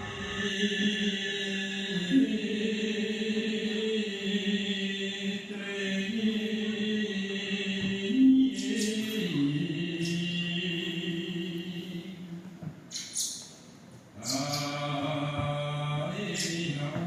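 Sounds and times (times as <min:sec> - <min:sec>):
low voices chanting: 0:00.0 - 0:12.7, 0:14.2 - 0:17.0.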